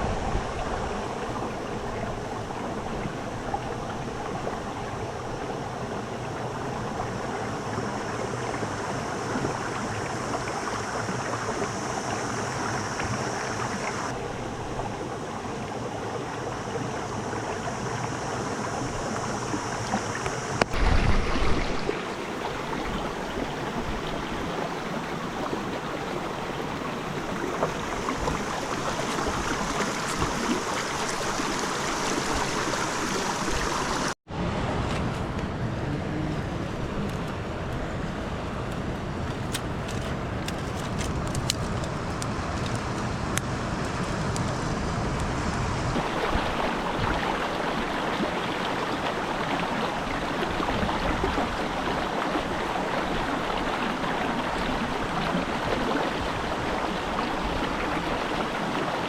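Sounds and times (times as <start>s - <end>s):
rushing water: 0.0s - 34.2s, 35.2s - 59.0s.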